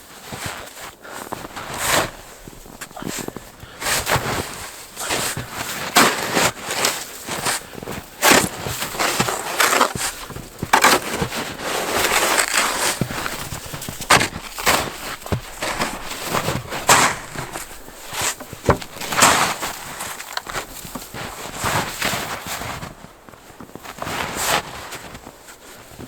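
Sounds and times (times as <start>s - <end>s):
snow shovel scraping snow: 0.1s - 26.0s.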